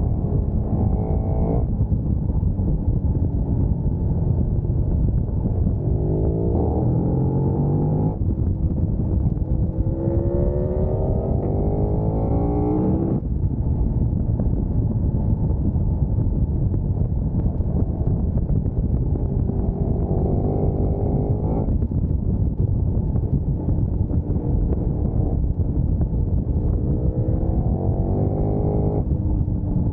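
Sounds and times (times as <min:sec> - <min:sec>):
low wind rumble: 0:00.0 - 0:29.9
motorcycle engine accelerating: 0:00.0 - 0:29.9.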